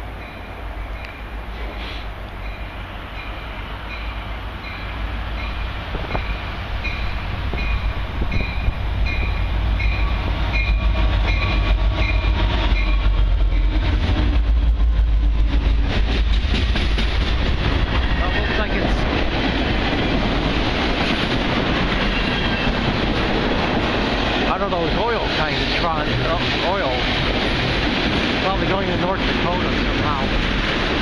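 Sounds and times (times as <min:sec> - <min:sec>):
freight train rumbling past: 0:00.0 - 0:31.0
wind buffeting microphone: 0:05.2 - 0:31.0.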